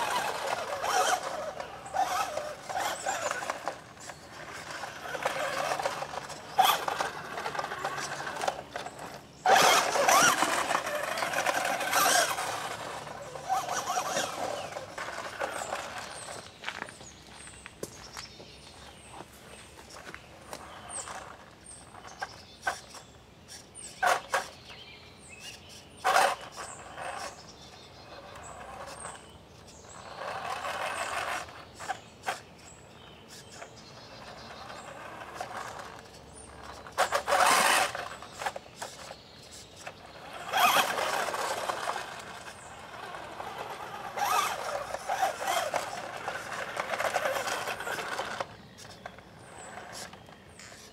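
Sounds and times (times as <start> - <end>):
rc truck motor whirring: 0.0 - 17.6, 19.8 - 50.9
tyres crunching on dirt: 0.0 - 23.0, 26.0 - 32.4, 33.3 - 50.9.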